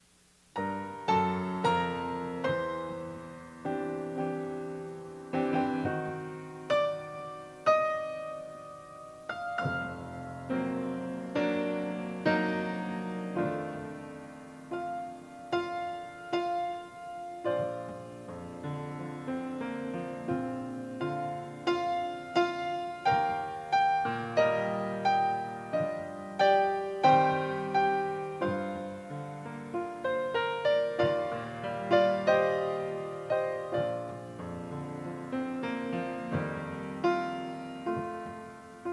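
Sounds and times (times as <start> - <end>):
piano chords ringing: 0.0 - 38.9.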